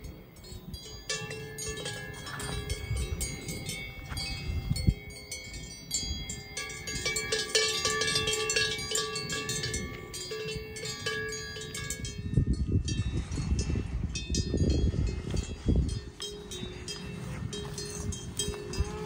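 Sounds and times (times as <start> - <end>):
cowbells clanking: 0.0 - 19.0.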